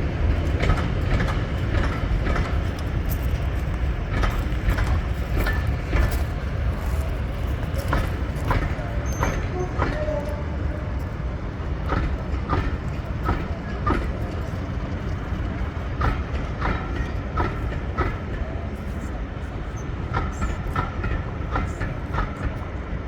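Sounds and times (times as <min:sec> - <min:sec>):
low rumble of train: 0:00.0 - 0:23.0
train wheels clickety-clack: 0:00.0 - 0:23.0.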